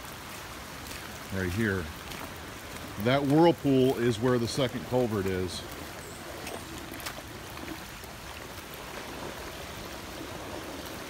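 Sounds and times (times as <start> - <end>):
floodwater rushing over culvert: 0.0 - 11.0.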